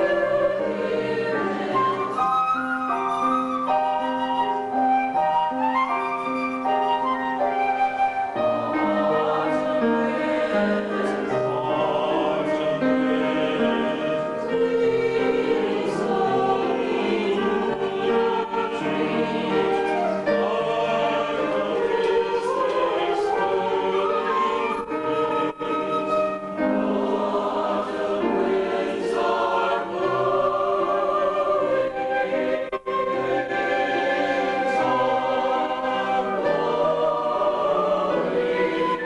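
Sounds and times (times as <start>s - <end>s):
choir singing: 0.0s - 39.0s
flute: 0.0s - 39.0s
piano: 0.0s - 39.0s
violin: 0.0s - 39.0s.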